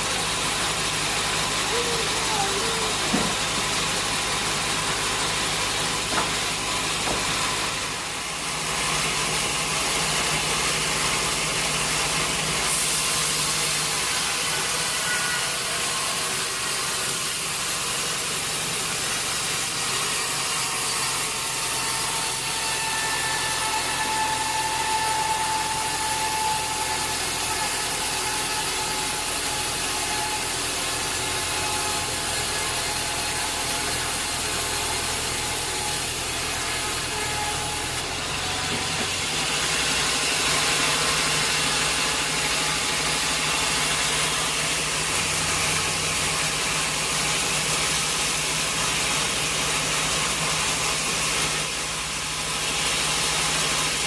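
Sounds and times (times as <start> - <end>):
sawmill saw humming: 0.0 - 54.0.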